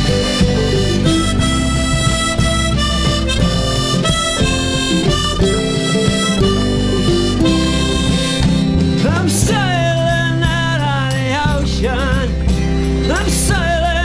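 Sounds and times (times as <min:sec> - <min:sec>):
harmonica melody with accompaniment: 0:00.0 - 0:14.0.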